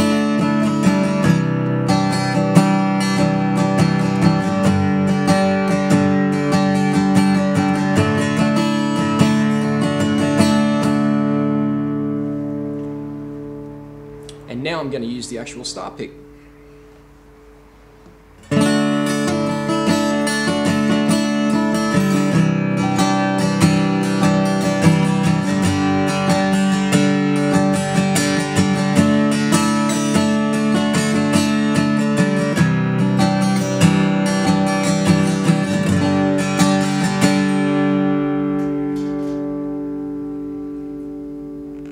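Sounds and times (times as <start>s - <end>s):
acoustic guitar strumming chords: 0.0s - 41.9s.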